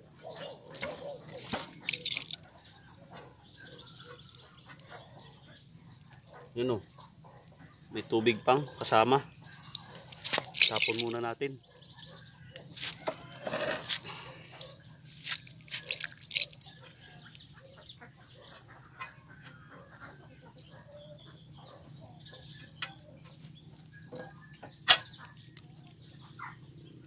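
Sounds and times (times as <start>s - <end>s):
high insect buzz: 0.0s - 27.0s.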